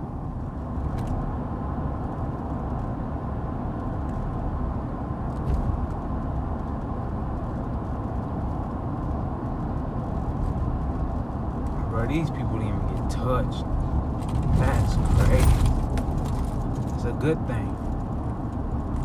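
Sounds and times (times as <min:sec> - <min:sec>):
car road noise and engine hum: 0:00.0 - 0:19.0.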